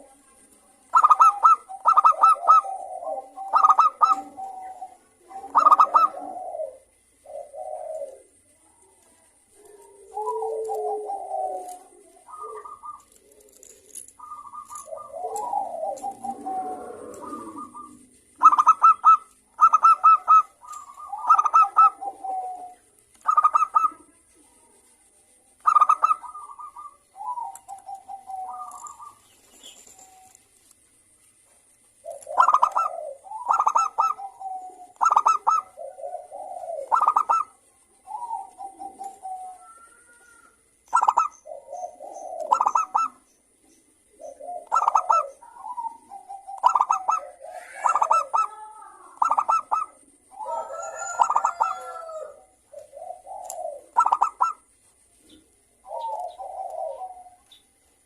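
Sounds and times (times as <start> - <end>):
doves cooing: 0.0 - 58.0.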